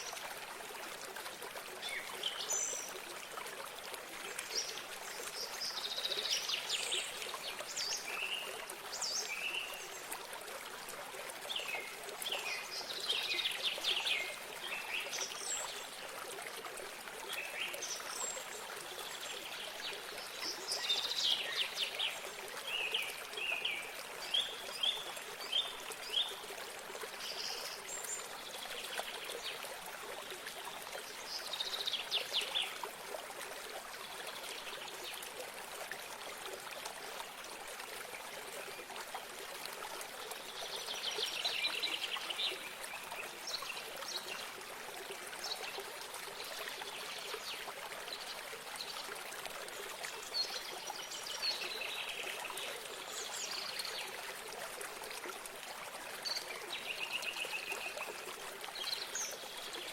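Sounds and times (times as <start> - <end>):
small stream trickling: 0.0 - 59.9.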